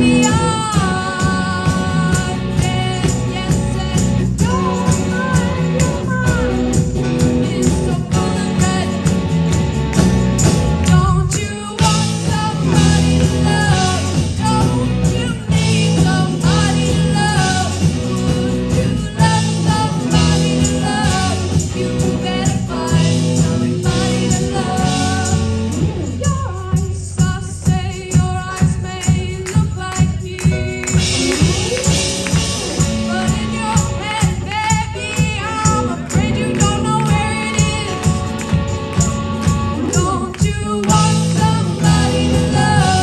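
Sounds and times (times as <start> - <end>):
girl singing: 0.0 - 9.2, 10.9 - 43.0
live rock band: 0.0 - 43.0.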